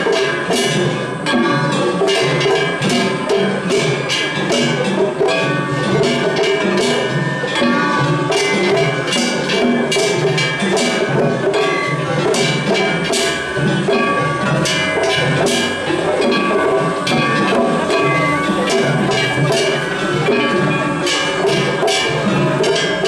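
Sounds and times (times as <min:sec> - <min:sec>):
hand gongs ringing: 0:00.0 - 0:23.0
taiko drums beating: 0:00.0 - 0:23.0.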